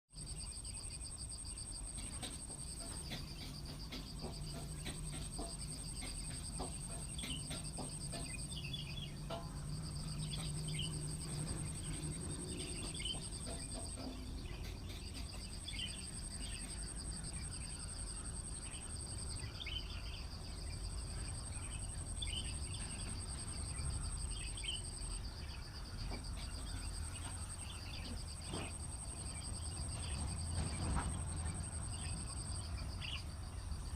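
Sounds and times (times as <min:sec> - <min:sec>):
insects trilling: 0:00.2 - 0:33.9
low background rumble: 0:00.3 - 0:33.9.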